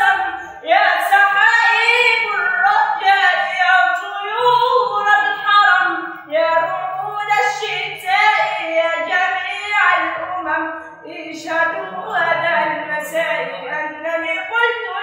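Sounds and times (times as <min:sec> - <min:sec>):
boy singing devotional song: 0:00.0 - 0:15.0.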